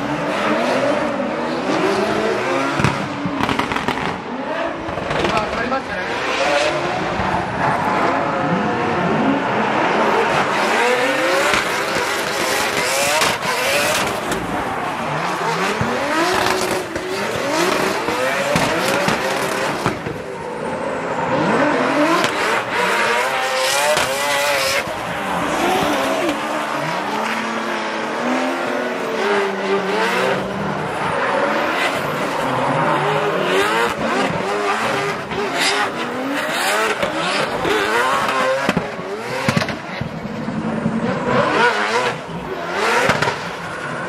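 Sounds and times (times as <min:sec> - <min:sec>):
car engines revving hard: 0:00.0 - 0:44.0.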